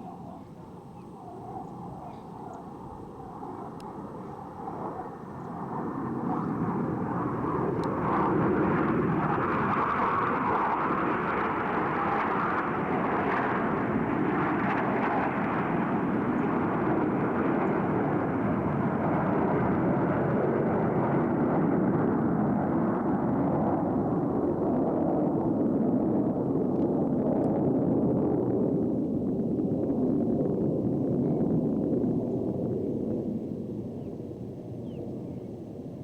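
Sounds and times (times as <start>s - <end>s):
distant jet engine roar: 0.0s - 36.0s.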